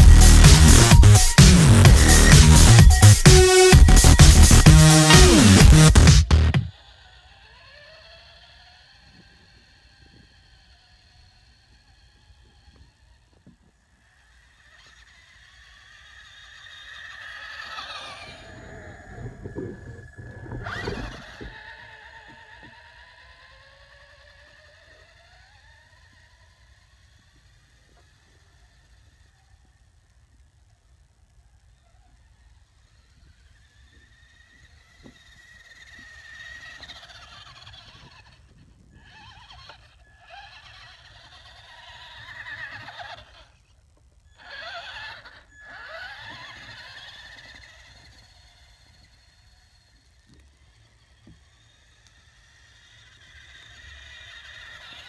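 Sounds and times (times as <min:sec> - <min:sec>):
toy truck electric motor whining: 0:00.0 - 0:55.0.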